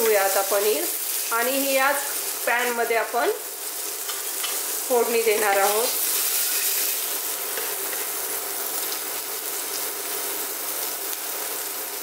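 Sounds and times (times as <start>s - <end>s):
butter and oil sizzling in pan: 0.0s - 12.0s.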